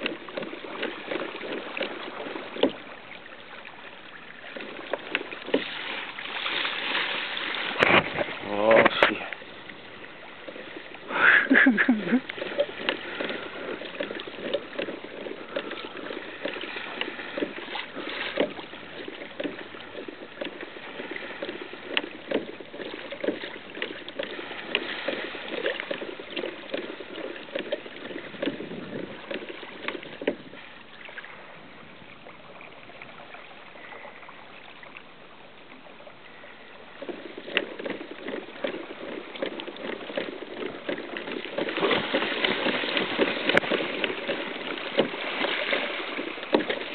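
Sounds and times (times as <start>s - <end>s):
water splashing against kayak hull: 0.0s - 46.9s.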